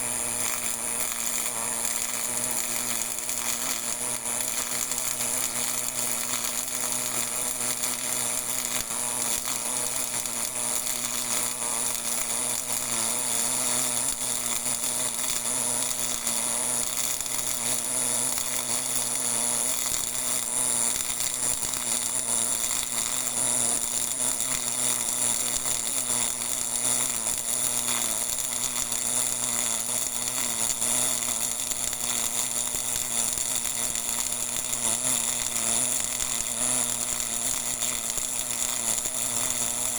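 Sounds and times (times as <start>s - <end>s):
welding arc buzzing and crackling: 0.0s - 39.9s.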